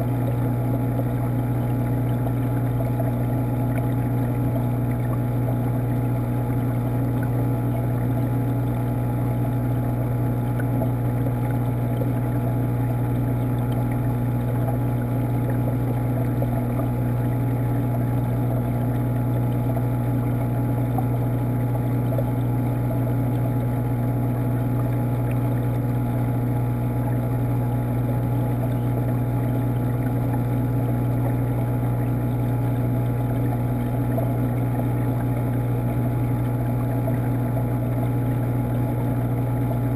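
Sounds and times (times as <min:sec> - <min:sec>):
underwater pump hum: 0:00.0 - 0:39.9.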